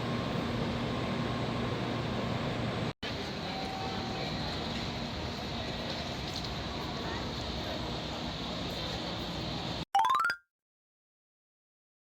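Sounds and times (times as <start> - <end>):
train rumbling and hissing: 0.0 - 9.8.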